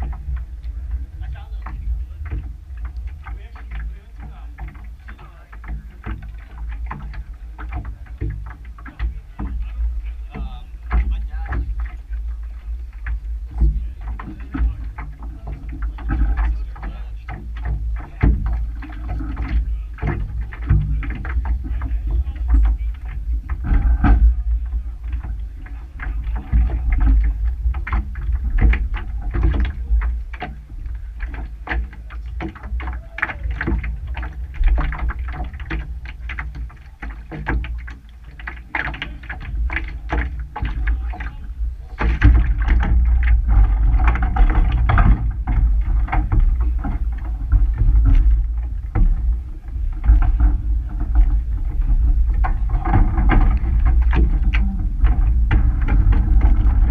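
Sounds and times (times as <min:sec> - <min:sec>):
low rumble: 0:00.0 - 0:56.9
oars knocking and rattling: 0:00.0 - 0:56.9.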